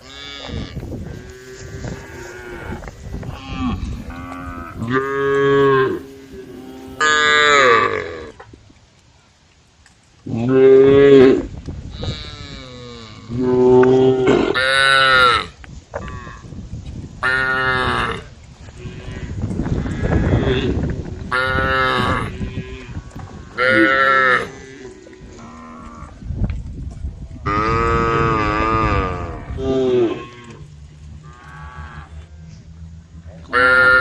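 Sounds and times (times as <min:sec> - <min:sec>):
cows mooing: 0:00.0 - 0:08.4, 0:10.3 - 0:16.4, 0:17.2 - 0:26.2, 0:27.4 - 0:34.0.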